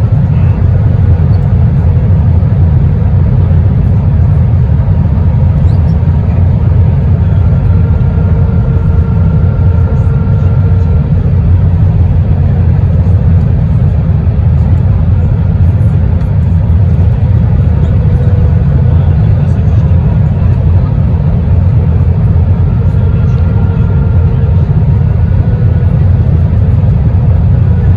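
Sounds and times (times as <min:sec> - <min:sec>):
airplane cabin engine rumble: 0:00.0 - 0:27.9
faint steady whine: 0:00.0 - 0:27.9.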